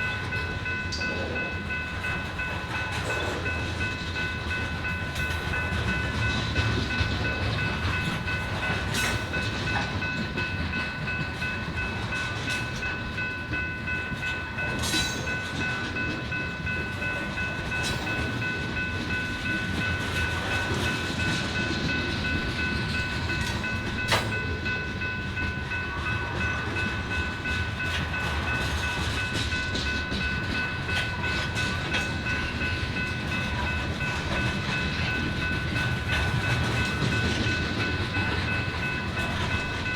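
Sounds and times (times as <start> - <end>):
freight train wheels clicking: 0.0 - 39.9.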